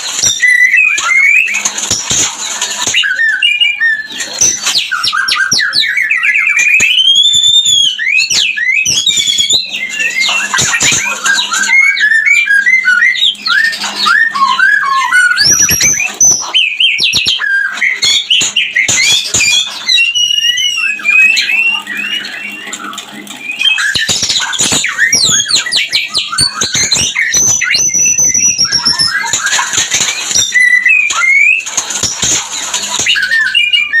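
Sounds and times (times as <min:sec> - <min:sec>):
songbird whistling and chattering: 0:00.2 - 0:01.7, 0:02.8 - 0:32.3, 0:33.0 - 0:34.0.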